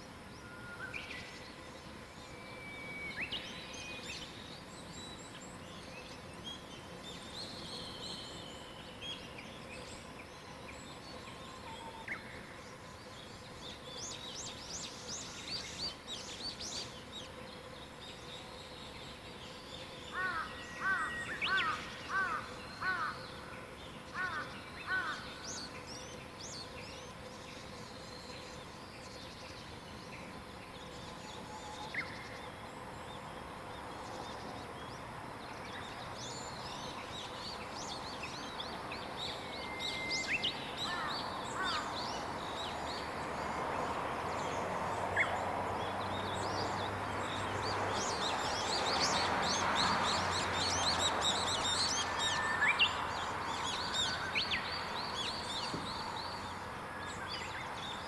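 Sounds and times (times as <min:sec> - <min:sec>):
songbirds chirping and singing: 0:01.0 - 0:58.0.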